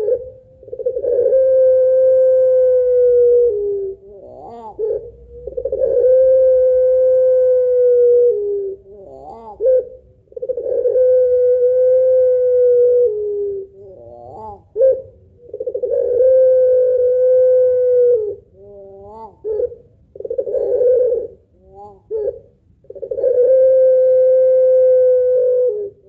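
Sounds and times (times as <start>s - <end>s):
dove cooing: 0.0s - 26.0s
dove laughing call: 0.0s - 26.0s.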